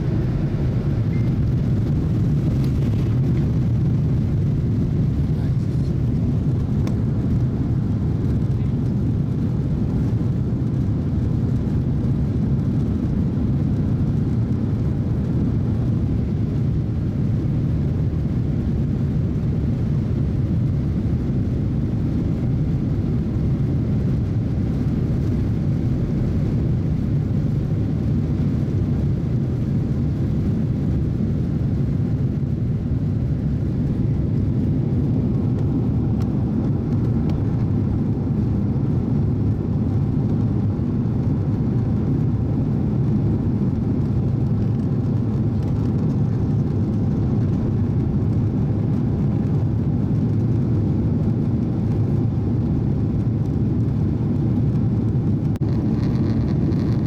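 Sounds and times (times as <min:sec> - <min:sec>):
jet engines at takeoff thrust: 0:00.0 - 0:57.0.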